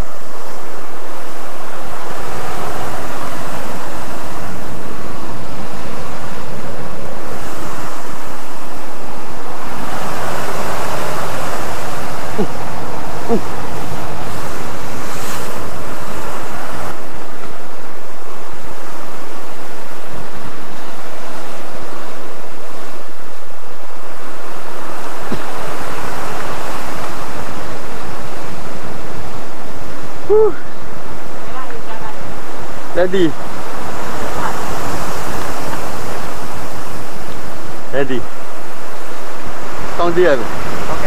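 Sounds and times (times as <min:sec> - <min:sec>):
sea surf breaking on rocks: 0:00.0 - 0:41.0
wind buffeting microphone: 0:00.0 - 0:41.0.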